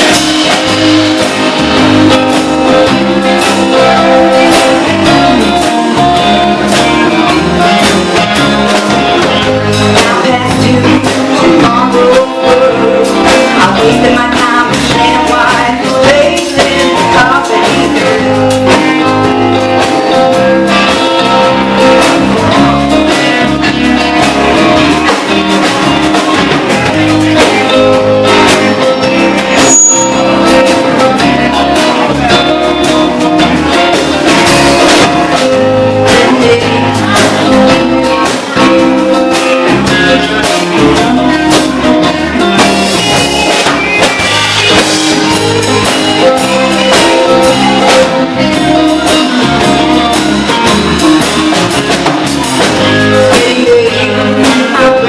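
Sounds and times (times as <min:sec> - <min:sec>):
blues-rock band music: 0:00.0 - 0:55.0.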